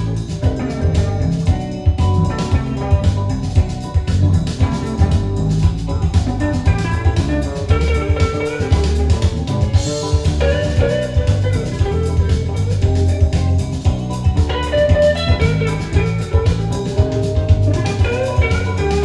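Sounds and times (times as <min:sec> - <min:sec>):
steady drum beat: 0:00.0 - 0:19.0
strong bass line: 0:00.0 - 0:19.0.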